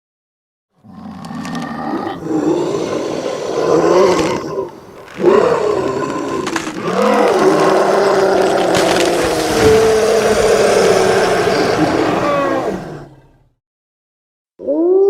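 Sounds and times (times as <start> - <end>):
loud animal-like roar: 0.8 - 13.5.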